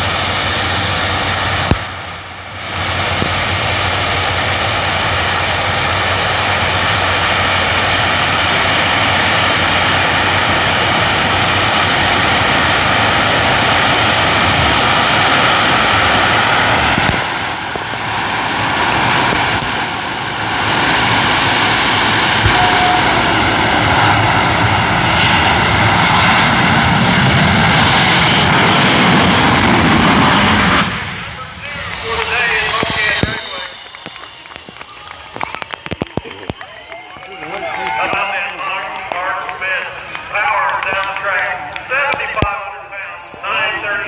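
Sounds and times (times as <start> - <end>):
jet engines whining: 0.0 - 44.0.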